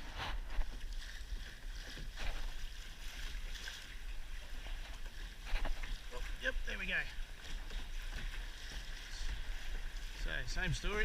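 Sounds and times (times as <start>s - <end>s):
water sloshing against hull: 0.0s - 11.0s.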